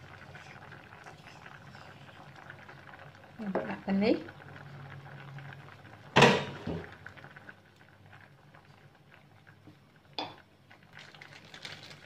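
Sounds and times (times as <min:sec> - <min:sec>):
pot bubbling at the boil: 0:00.0 - 0:12.0.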